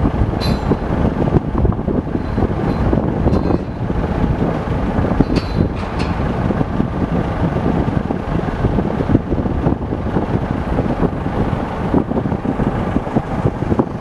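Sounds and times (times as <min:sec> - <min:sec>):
faint machine hum: 0:00.0 - 0:14.0
wind buffeting microphone: 0:00.0 - 0:14.0.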